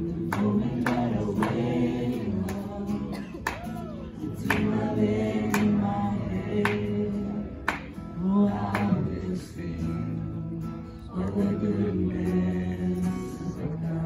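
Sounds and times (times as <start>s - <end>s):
voices singing together: 0.0s - 14.0s.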